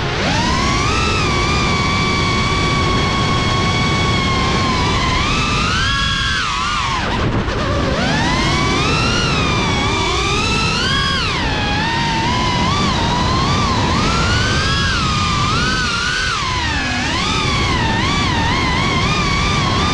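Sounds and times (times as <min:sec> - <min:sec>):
drone motors whining: 0:00.0 - 0:19.9.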